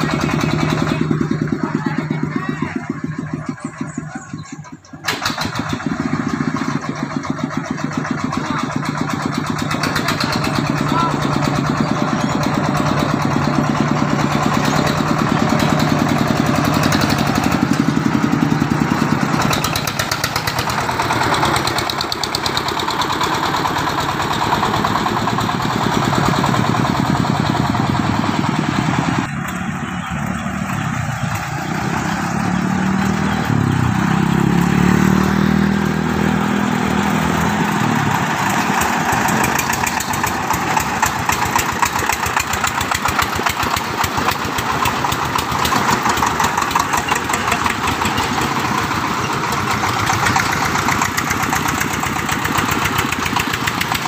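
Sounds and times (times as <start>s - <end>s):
engine starting and running: 0.0s - 54.0s
quieter engine: 0.0s - 54.0s.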